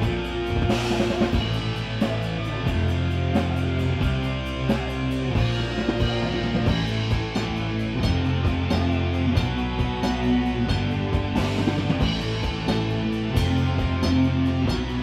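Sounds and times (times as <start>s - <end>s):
distorted guitars and bass: 0.0s - 15.0s
drums with steady cymbal beat: 0.0s - 15.0s.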